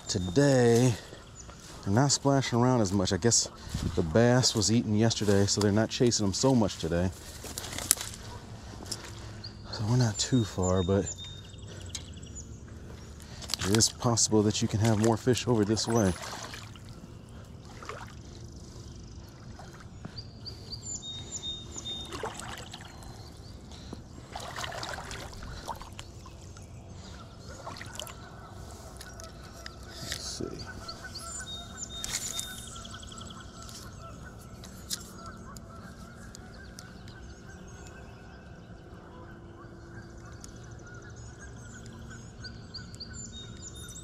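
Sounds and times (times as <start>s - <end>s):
birds calling: 0.0s - 44.0s.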